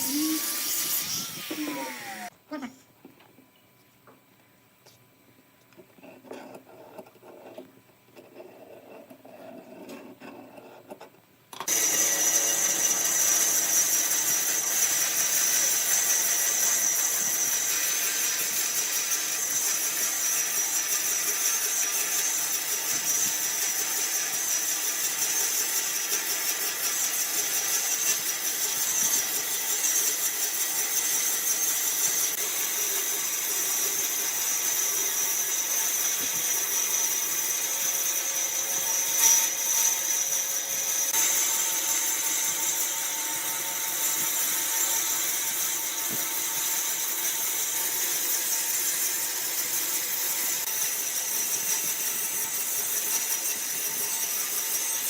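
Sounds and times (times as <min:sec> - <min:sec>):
wood lathe hissing cut: 0:00.0 - 0:02.3, 0:11.7 - 0:55.0.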